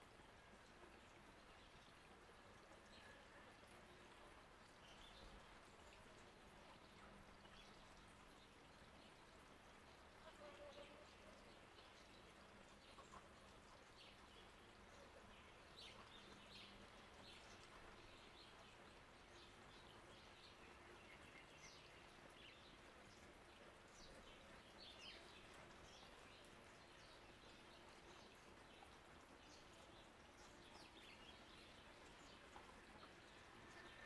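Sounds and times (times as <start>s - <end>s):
fountain water flowing: 0.0s - 34.0s.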